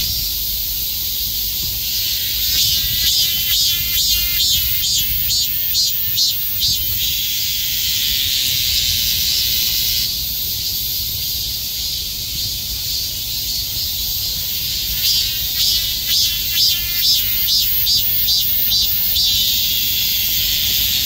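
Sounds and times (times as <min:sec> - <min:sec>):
pulsing insect call: 0:00.0 - 0:10.8, 0:12.4 - 0:21.0
cicadas buzzing: 0:00.0 - 0:21.0.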